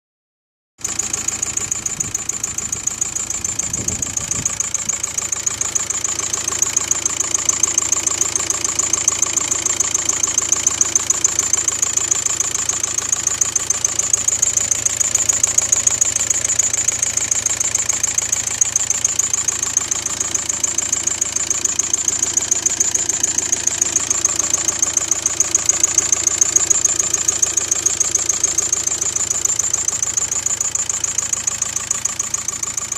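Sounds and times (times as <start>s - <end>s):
diesel engine idling with ticking knock: 0.8s - 32.9s.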